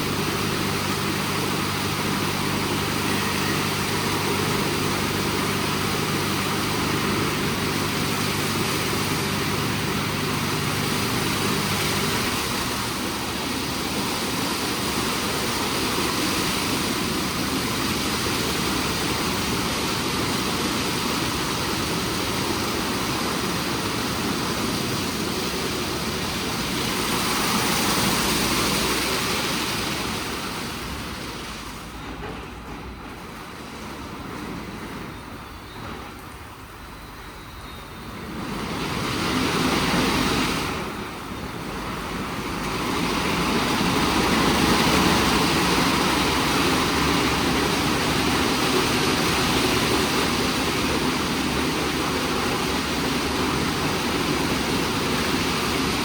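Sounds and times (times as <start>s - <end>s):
low machine hum: 0.0s - 56.0s
spraying water and machinery: 0.0s - 56.0s.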